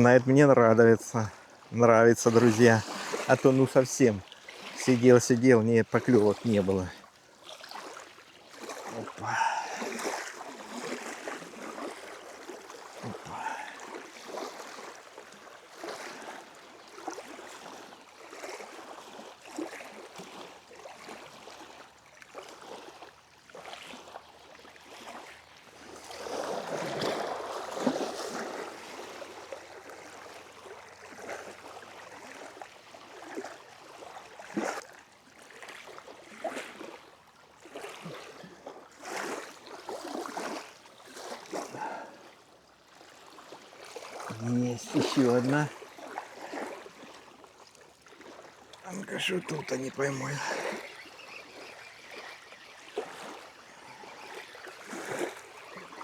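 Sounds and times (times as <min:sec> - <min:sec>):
water lapping: 0:00.0 - 0:56.0
wind: 0:00.0 - 0:56.0.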